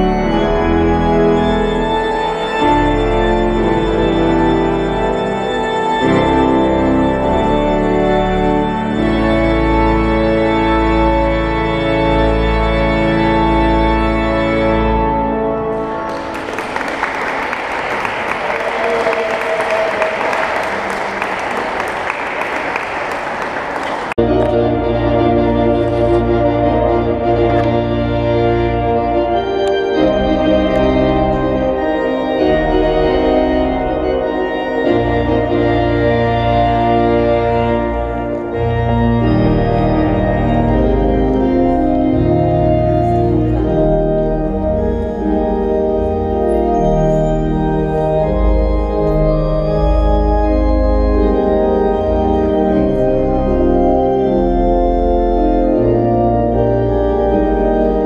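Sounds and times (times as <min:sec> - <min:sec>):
pipe organ chords: 0:00.0 - 0:58.0.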